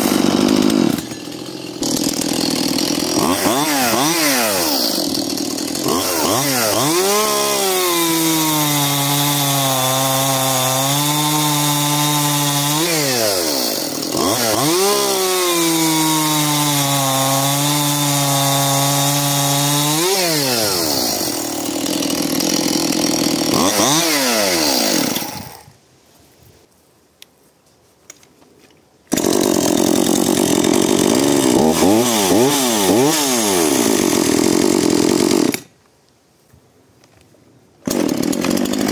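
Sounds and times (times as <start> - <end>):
chainsaw cutting log: 0.0 - 25.8, 29.1 - 35.8, 37.8 - 38.9.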